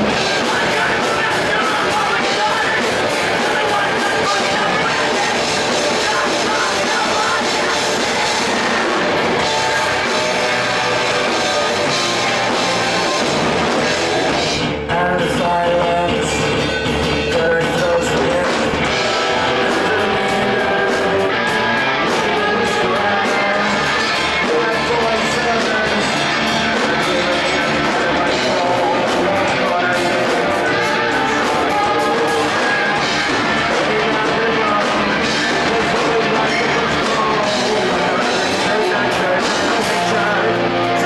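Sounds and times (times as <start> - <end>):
drums: 0.0 - 41.0
electric guitars: 0.0 - 41.0
person singing: 0.0 - 41.0.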